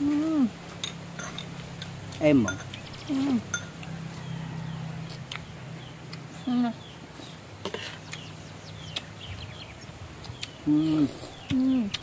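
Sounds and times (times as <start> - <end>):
birds chirping: 1.1 - 12.0.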